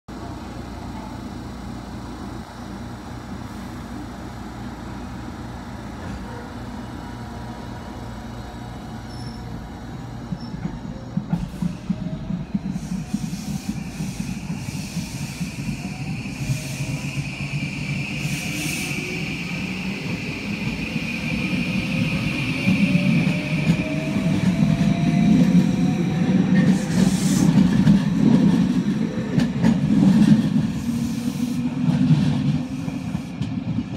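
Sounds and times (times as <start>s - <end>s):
train low hum: 0.1s - 33.9s.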